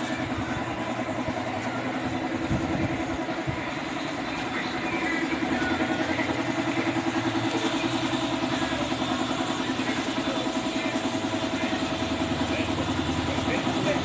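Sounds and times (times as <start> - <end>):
motor running with pulsing beat: 0.0 - 14.0.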